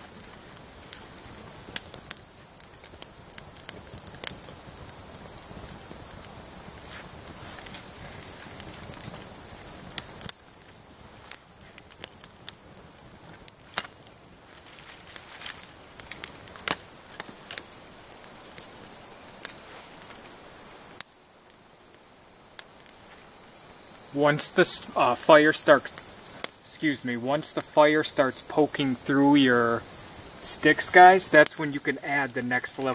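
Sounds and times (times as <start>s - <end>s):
small fire crackling and popping: 0.0s - 32.9s.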